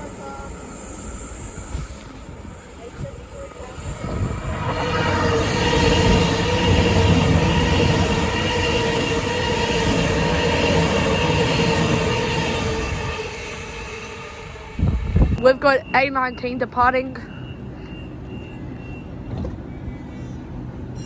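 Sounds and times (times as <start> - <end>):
electric train rumble: 0.0 - 21.0
train whining tones: 0.0 - 21.0.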